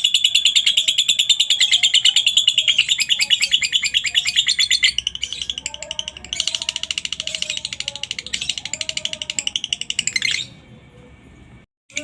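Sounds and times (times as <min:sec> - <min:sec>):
lovebird chattering trill: 0:00.0 - 0:10.5.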